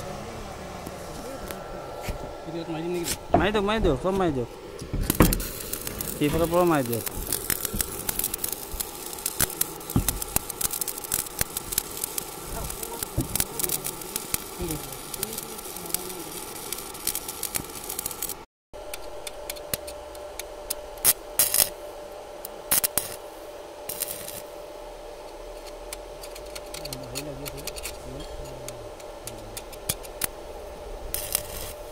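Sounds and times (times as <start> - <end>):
welding arc crackling: 0.0 - 31.9.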